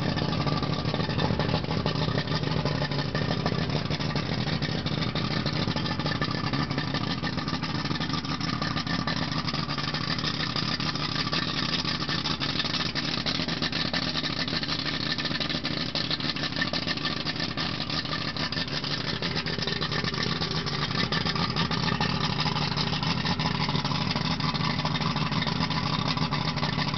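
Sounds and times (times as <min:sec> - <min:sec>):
exhaust spraying water: 0:00.0 - 0:26.9
outboard engine idling: 0:00.0 - 0:26.9.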